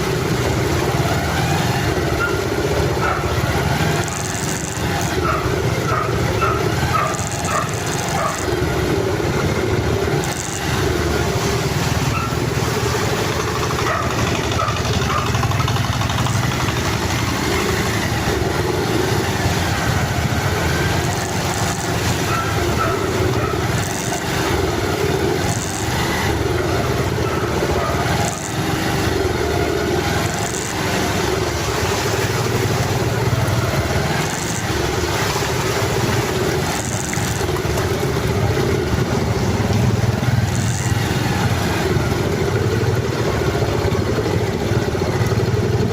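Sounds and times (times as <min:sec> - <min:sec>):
constant rushing noise: 0:00.0 - 0:45.9
vehicle engine running: 0:00.0 - 0:45.9.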